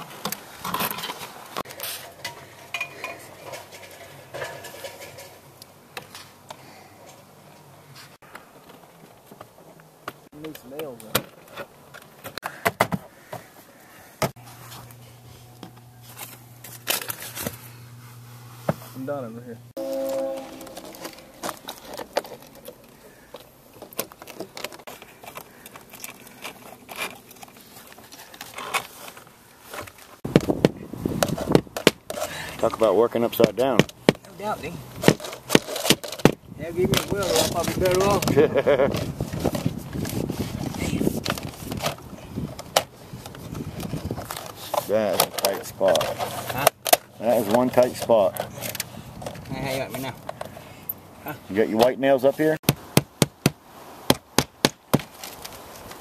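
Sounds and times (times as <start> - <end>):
background noise: 0.0 - 16.3, 17.9 - 56.0.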